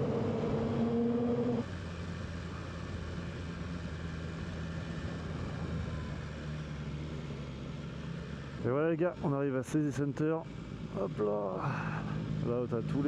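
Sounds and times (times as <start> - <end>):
motorcycle engine revving and idling: 0.0 - 8.9, 10.5 - 13.0.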